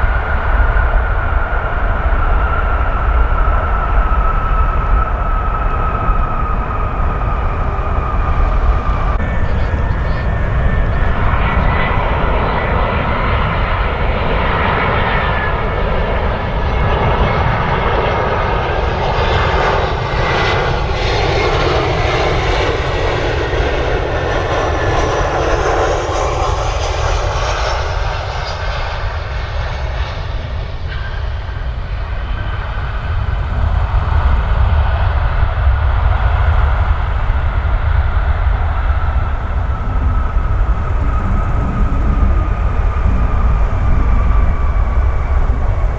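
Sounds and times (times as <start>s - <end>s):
continuous deep rumble: 0.0s - 45.9s
jet airliner passing by: 0.0s - 45.9s.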